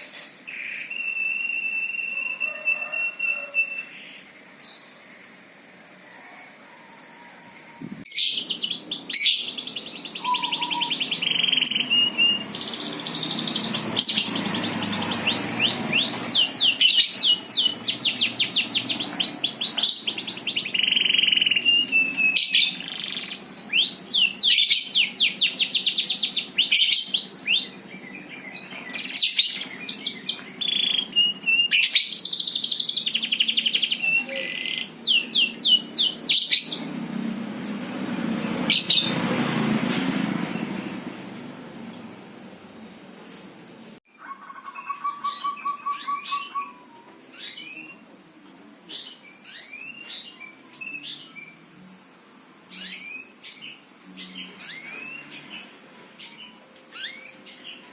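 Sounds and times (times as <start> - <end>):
songbird singing: 0.1 - 6.2, 8.0 - 39.6, 44.1 - 48.1, 52.7 - 57.9.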